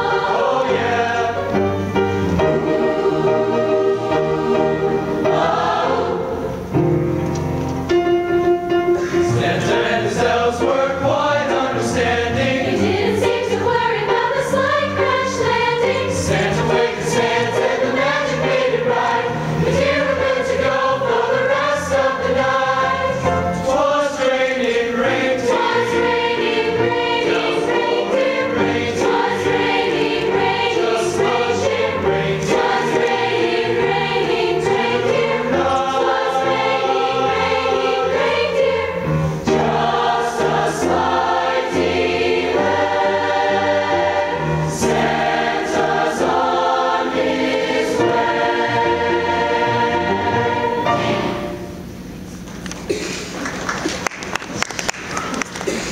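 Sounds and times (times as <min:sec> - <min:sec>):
choir singing in harmony: 0:00.0 - 0:07.2, 0:08.5 - 0:52.2.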